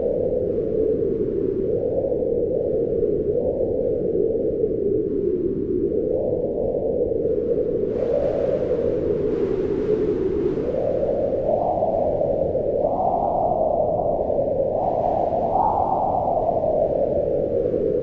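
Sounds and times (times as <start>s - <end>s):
howling wind: 0.0s - 18.0s.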